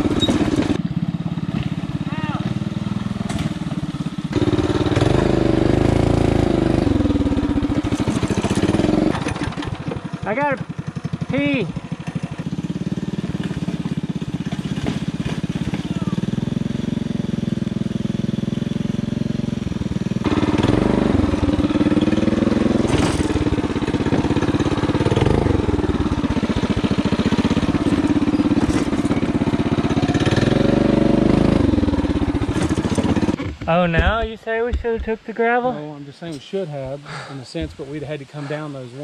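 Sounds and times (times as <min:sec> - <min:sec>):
mini bike engine running: 0:00.0 - 0:33.8.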